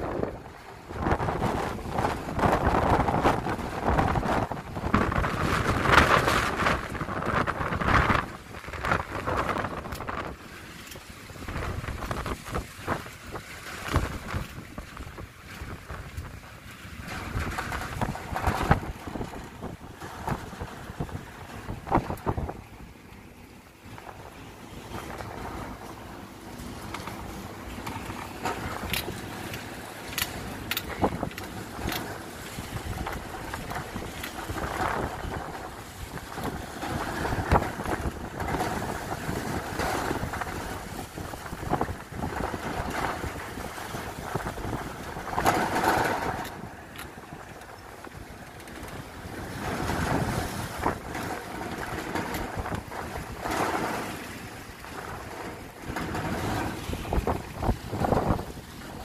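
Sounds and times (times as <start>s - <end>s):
strong wind gusts: 0.0s - 23.0s, 23.8s - 59.0s
wind buffeting microphone: 0.0s - 59.0s.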